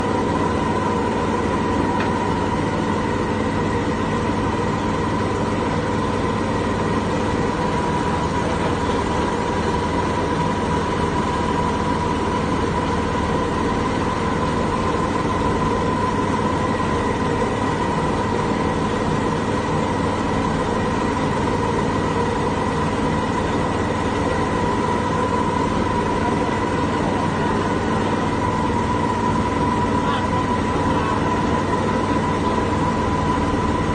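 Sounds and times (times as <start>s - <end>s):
boat engine drone with whine: 0.0s - 33.9s.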